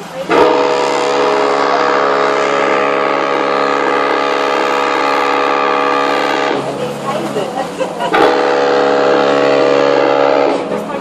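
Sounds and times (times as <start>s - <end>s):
ship's horn blast: 0.2s - 11.0s.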